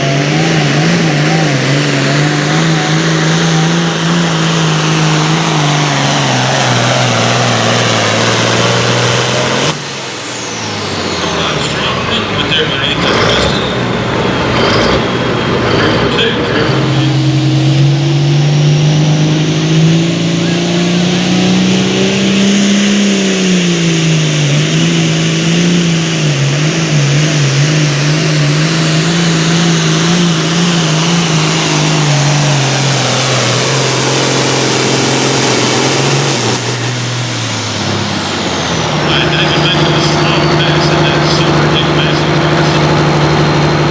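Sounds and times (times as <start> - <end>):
tractor engine under heavy load: 0.0 - 43.9.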